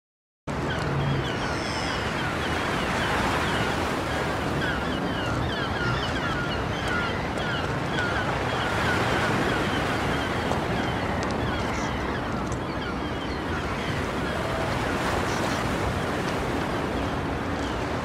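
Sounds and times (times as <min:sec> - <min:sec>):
surf-like rushing noise: 0:00.5 - 0:18.0.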